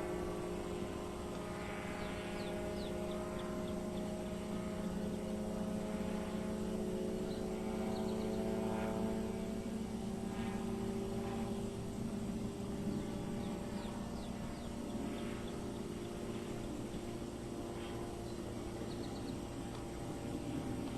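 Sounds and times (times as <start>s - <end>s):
propeller aircraft engine droning: 0.0s - 20.9s.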